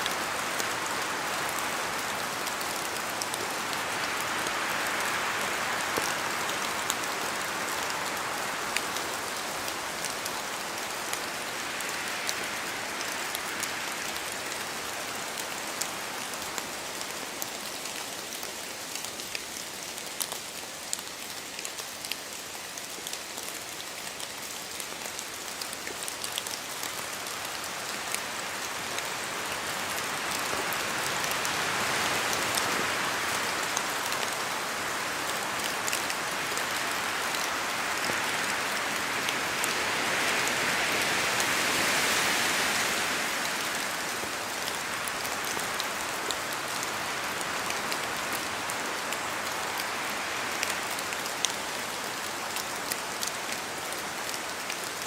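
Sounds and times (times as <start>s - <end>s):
rain pattering in a forest: 0.0s - 55.0s.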